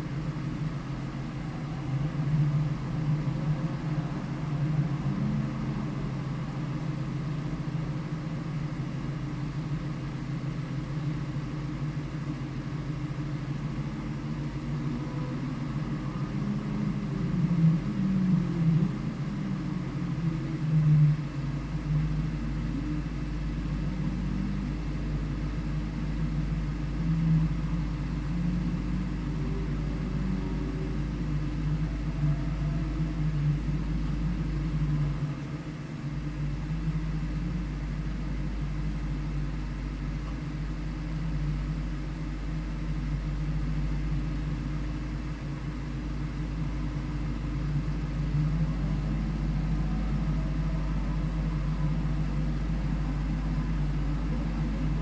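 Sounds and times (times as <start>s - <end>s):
vehicle engine running steadily: 0.0s - 55.0s.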